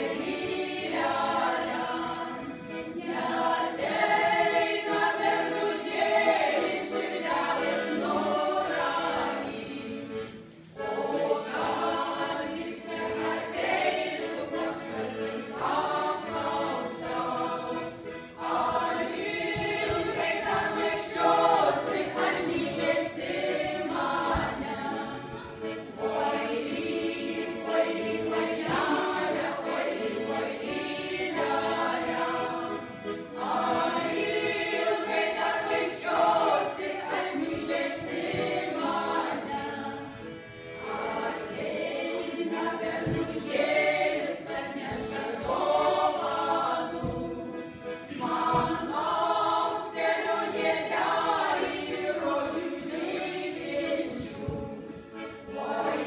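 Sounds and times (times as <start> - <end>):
accordion: 0.0 - 56.0
women's choir singing: 0.0 - 56.0.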